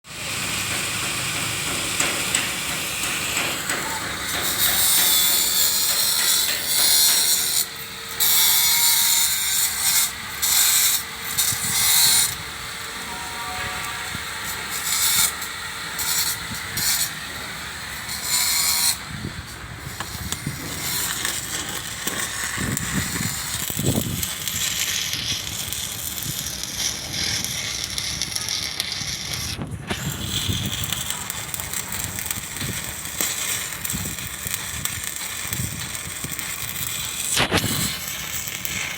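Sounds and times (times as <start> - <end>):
arc welding hiss: 0.1 - 38.9.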